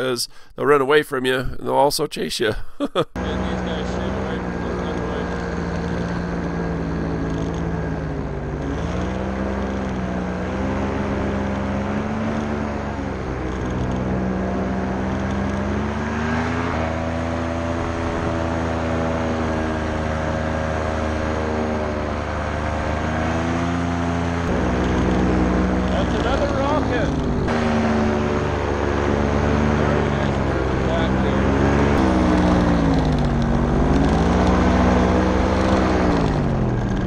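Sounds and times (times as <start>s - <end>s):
paramotor engine and propeller: 3.2s - 37.0s.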